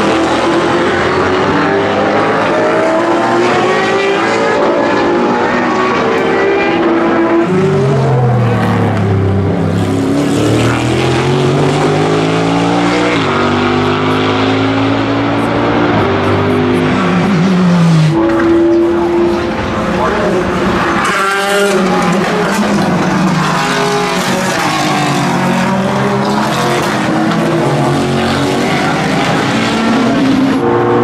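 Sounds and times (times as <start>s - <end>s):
race car engines at speed: 0.0s - 31.0s.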